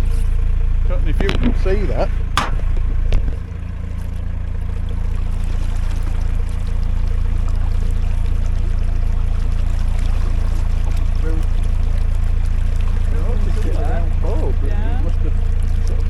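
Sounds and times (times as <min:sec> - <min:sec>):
boat diesel engine running: 0:00.0 - 0:16.0
water rushing along hull: 0:01.2 - 0:16.0.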